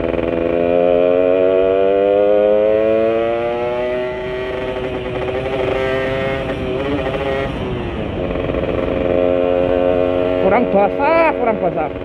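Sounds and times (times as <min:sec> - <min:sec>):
motorcycle engine pulling: 0:00.0 - 0:12.0.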